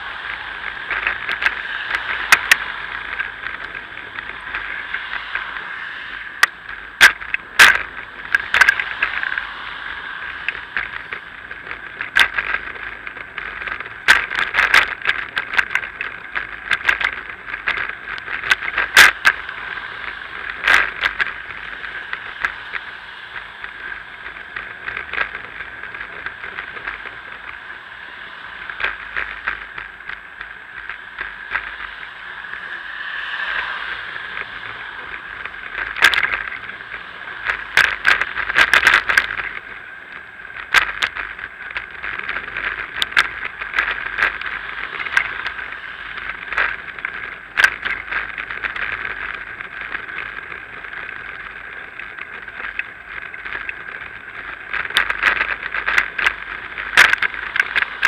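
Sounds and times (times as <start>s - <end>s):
bicycle rattling over bumps: 0.0s - 58.0s
wind and rolling tyres: 0.0s - 58.0s.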